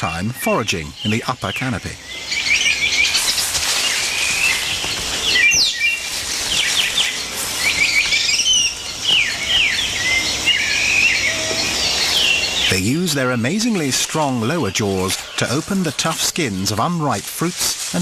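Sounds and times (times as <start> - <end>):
birds chirping and whistling: 0.0 - 18.0
high hiss of forest background: 0.0 - 18.0.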